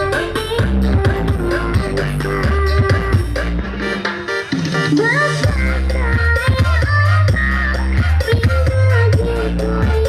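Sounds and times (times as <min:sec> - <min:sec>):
electronic dance music: 0:00.0 - 0:10.0
heavy bass: 0:00.0 - 0:10.0.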